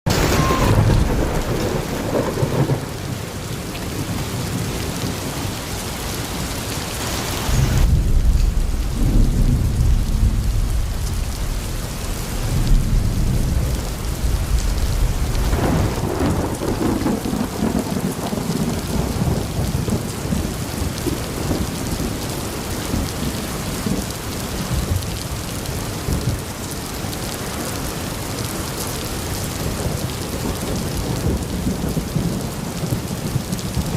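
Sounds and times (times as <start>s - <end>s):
heavy rain: 0.0s - 33.9s
rolling thunder: 0.1s - 5.5s, 7.4s - 26.5s, 29.3s - 33.9s.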